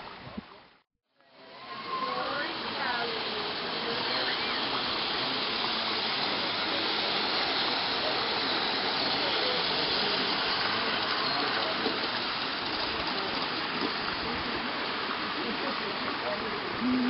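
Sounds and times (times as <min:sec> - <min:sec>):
running water rushing: 0:00.0 - 0:17.0
faint voices: 0:01.2 - 0:17.0.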